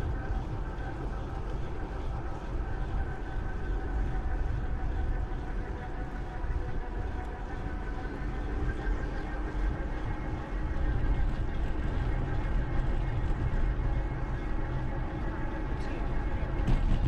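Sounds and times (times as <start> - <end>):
bicycle rolling noise: 0.0 - 17.0
faint steady hum: 0.0 - 17.0
wind rumble: 0.0 - 17.0.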